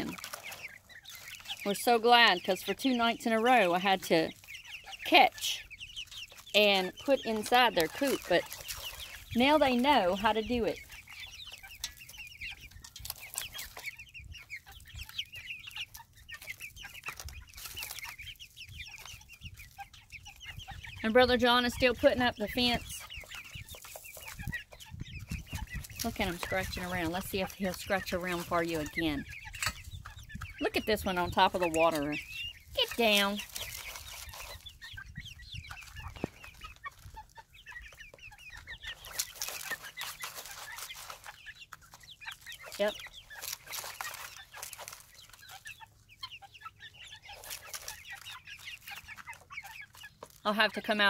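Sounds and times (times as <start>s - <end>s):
beaks pecking grain in pan: 0.0s - 51.0s
chicks peeping: 0.0s - 51.0s.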